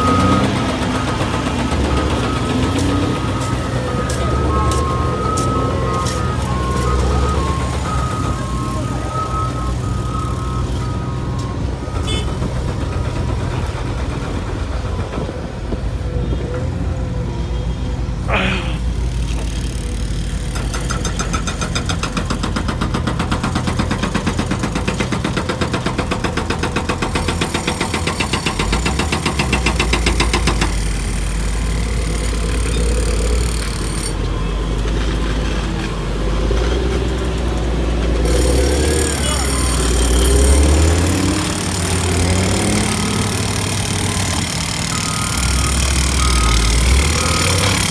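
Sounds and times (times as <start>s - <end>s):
heavy machinery engines running: 0.0s - 47.9s.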